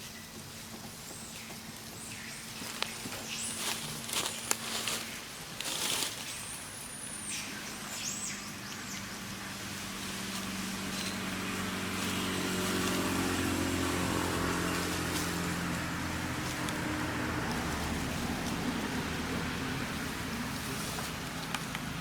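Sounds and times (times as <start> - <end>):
vehicle engine running: 0.2 - 22.0.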